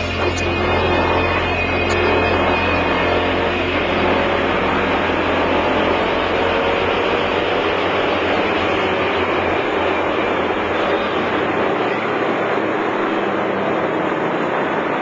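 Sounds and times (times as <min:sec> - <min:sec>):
car engine note: 0:00.0 - 0:15.0
constant rush of noise: 0:00.0 - 0:15.0.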